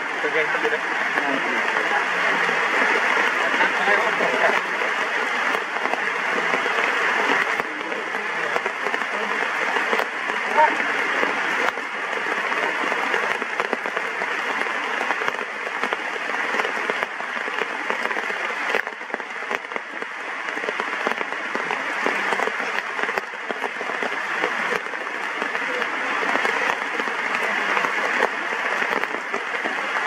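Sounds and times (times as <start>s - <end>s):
heavy rain pouring: 0.0s - 30.0s
close raindrop taps: 0.3s - 30.0s.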